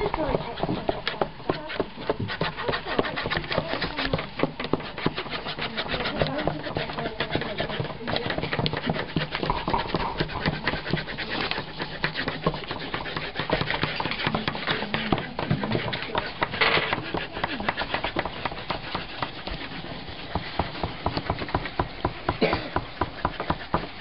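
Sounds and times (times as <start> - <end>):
pens scribbling on paper: 0.0 - 24.0.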